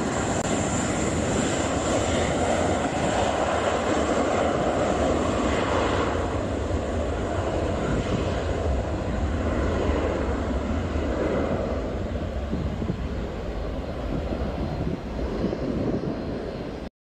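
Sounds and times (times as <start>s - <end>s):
airplane engine rumble: 0.0s - 16.9s.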